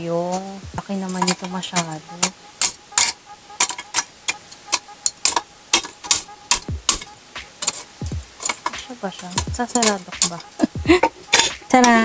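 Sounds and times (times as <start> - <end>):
metal tongs and charcoal clinking: 0.2 - 12.0.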